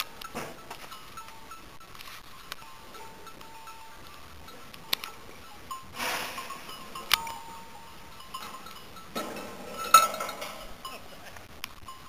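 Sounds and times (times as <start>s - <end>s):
metallic clinks on trough: 0.0s - 12.0s
sheep feeding sounds: 0.0s - 12.0s
sheep snuffling: 0.1s - 10.8s.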